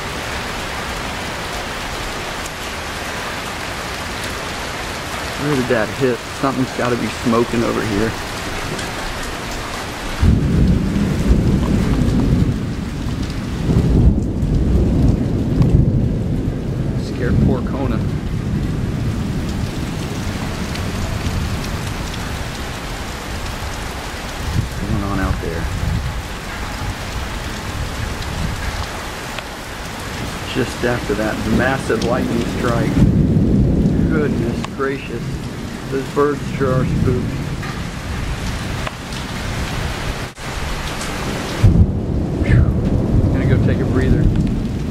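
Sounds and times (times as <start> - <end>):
heavy rain pouring: 0.0 - 44.9
low thunder rumble: 2.8 - 44.9.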